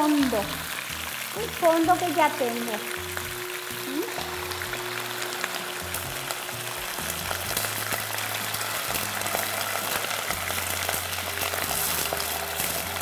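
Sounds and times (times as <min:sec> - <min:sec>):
background music low notes: 0:00.0 - 0:13.0
meat sizzling in a pot: 0:00.0 - 0:13.0.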